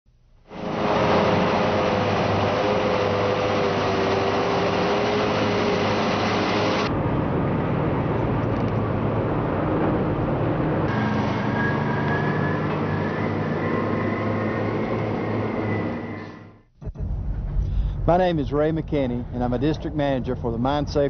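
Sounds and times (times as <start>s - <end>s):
diesel engine with whine: 0.5s - 18.1s
heavy machinery rumble: 0.5s - 21.0s.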